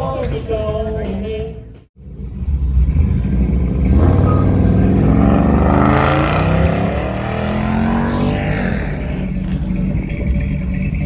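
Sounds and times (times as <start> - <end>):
car engine revving: 2.0 - 11.0.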